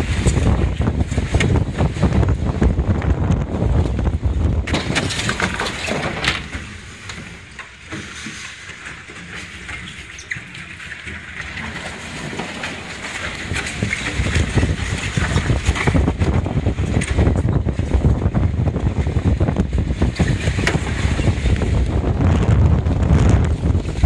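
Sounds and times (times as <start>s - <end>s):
wind buffeting microphone: 0.0s - 7.4s, 11.3s - 24.0s.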